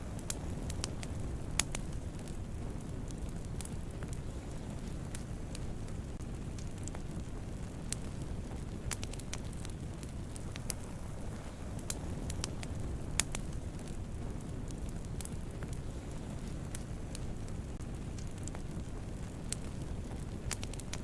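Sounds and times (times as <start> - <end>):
campfire flames rushing: 0.0 - 21.0
fire crackles and pops: 0.0 - 21.0.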